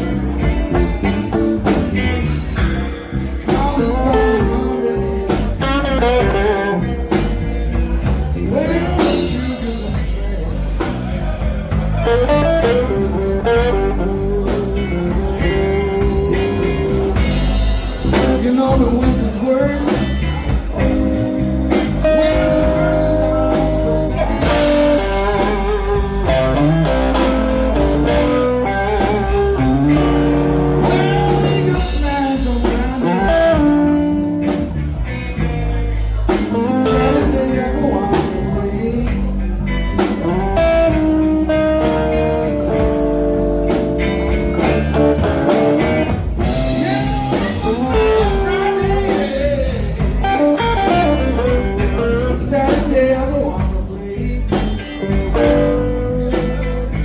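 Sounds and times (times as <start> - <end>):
blues band music: 0.0 - 57.0
guitar bending notes: 0.0 - 57.0.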